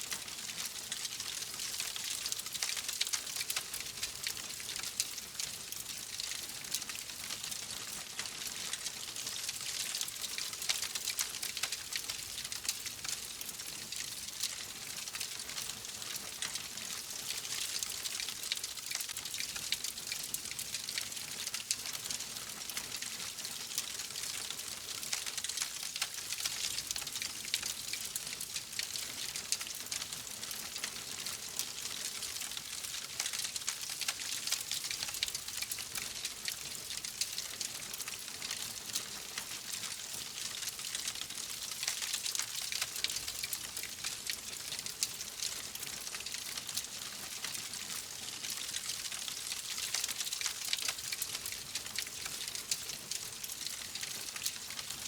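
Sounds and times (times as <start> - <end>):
wood fire crackling and hissing: 0.0 - 55.0.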